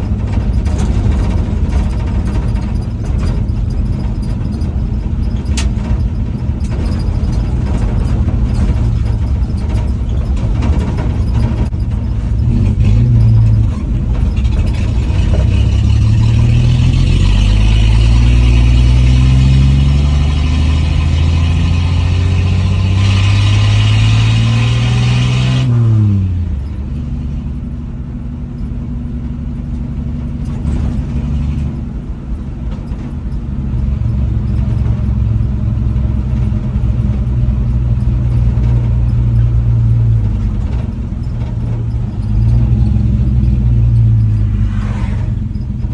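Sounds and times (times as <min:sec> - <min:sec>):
truck engine under throttle: 0:00.0 - 0:45.9.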